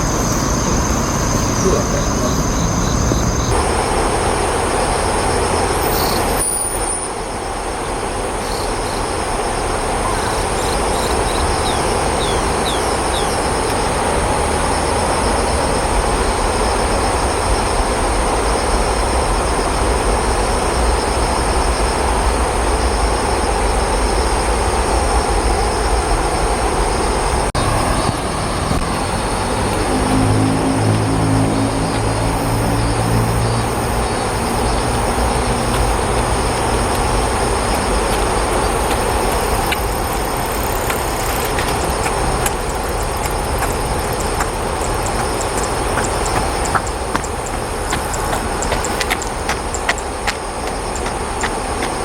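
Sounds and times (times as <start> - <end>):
high hiss: 0.0 - 51.8
loud rumbling traffic noise: 0.0 - 52.0.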